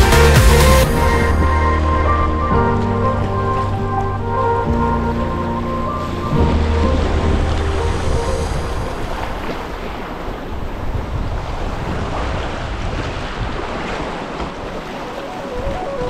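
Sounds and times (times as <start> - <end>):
rushing whitewater: 0.0 - 16.0
wind noise on microphone: 0.0 - 16.0.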